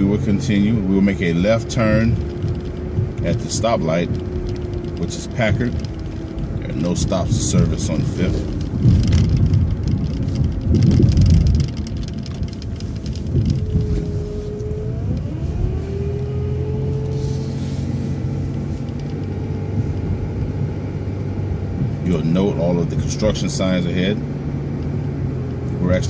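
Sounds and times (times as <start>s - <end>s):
bus engine rumble: 0.0s - 26.0s
drivetrain whine: 0.0s - 26.0s.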